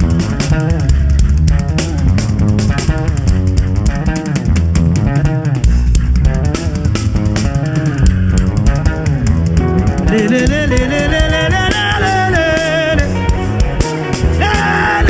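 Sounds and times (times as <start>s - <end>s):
bass guitar: 0.0s - 15.0s
drum and cymbal hits: 0.0s - 15.0s
gliding guitar lead: 0.0s - 15.0s.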